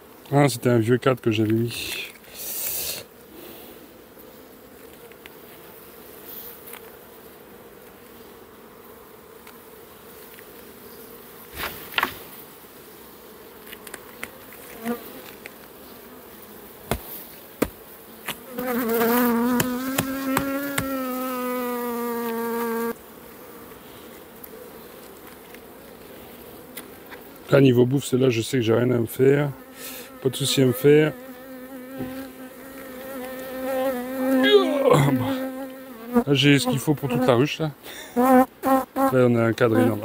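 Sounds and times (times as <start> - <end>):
bee buzzing at microphone: 0.0 - 40.0
honeybees buzzing: 0.0 - 40.0.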